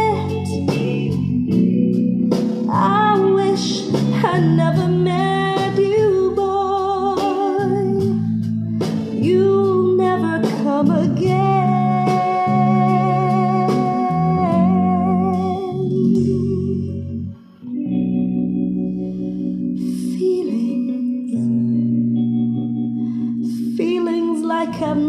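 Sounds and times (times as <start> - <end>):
instrumental pop ballad on speakers: 0.0 - 25.0.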